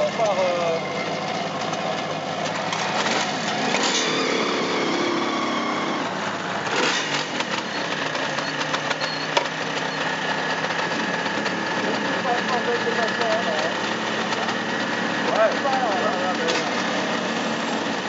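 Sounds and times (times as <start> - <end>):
motorcycle engines idling: 0.0 - 18.0.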